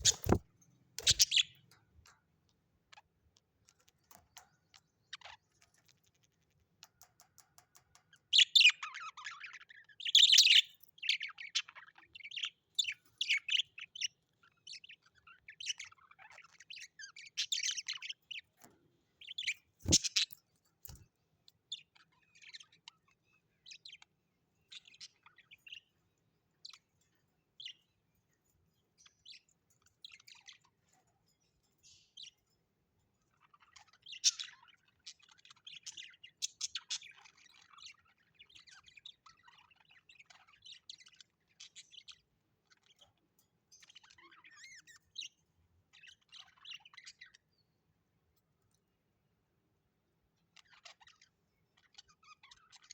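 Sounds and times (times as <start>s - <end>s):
birds chirping and twittering: 0.0s - 49.2s, 49.8s - 52.9s.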